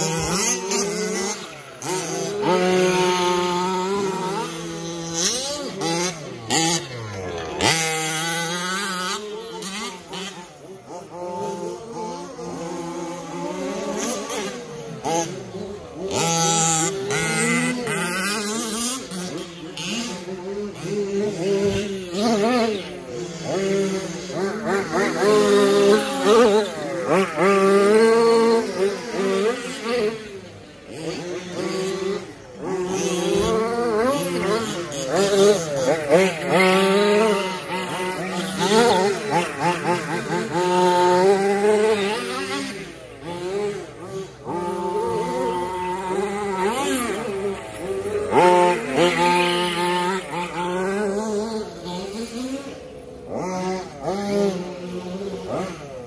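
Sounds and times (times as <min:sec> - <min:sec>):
rc truck motors buzzing: 0:00.0 - 0:56.0.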